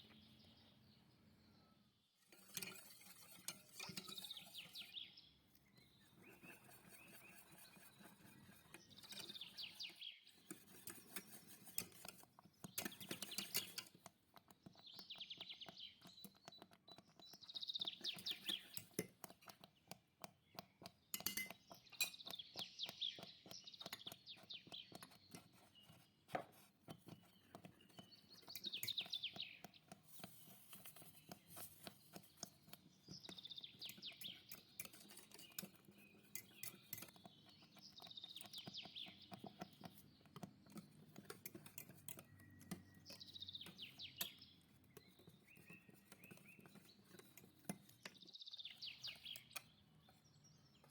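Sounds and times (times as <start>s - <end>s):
utensil clicking against dish: 6.3s - 49.8s.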